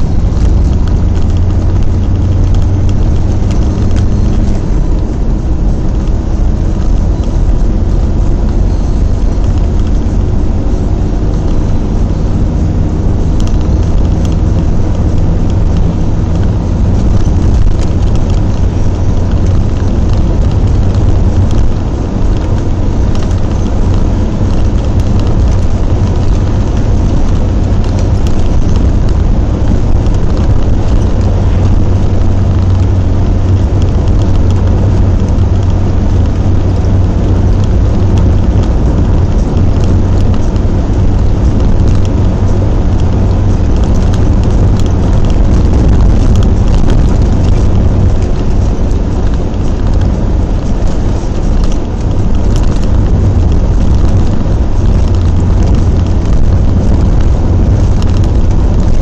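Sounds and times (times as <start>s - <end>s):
road noise hiss: 0.0s - 59.0s
vehicle engine drone: 0.0s - 59.0s.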